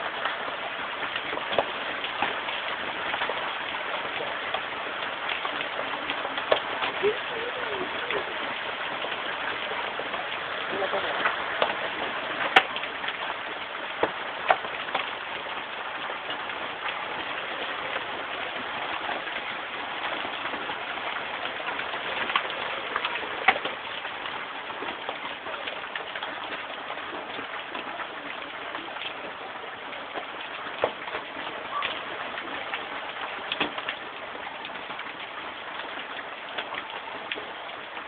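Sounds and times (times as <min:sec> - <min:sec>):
hailstones knocking on surfaces: 0:00.0 - 0:38.0
heavy rain and hail: 0:00.0 - 0:38.0.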